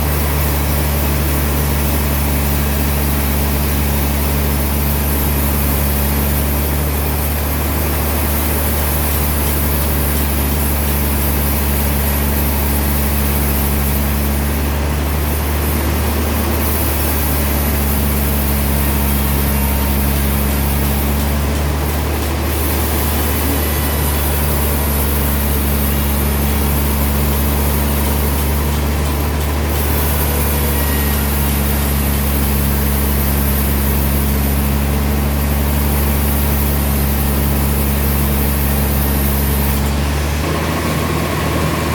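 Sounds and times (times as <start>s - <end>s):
sawmill machinery humming: 0.0s - 41.9s.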